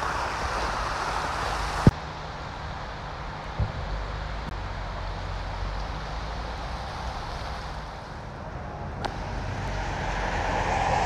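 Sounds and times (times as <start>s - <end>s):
car tyres hissing on wet road: 0.0s - 8.4s, 9.0s - 11.0s.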